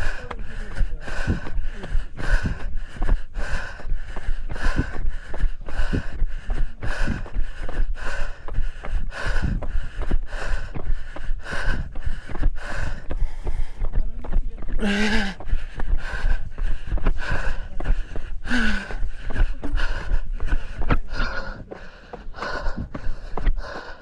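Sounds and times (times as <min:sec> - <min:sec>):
hard rhythmic breathing: 0:00.0 - 0:24.0.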